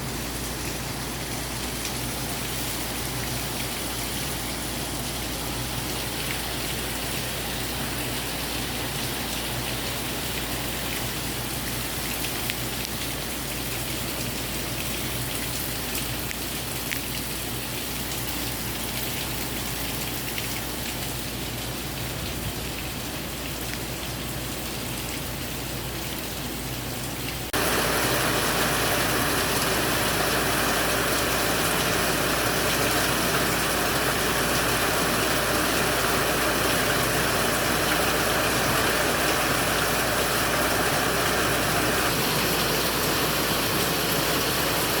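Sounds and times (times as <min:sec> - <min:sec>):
heavy rain pouring: 0:00.0 - 0:26.5, 0:27.3 - 0:45.0.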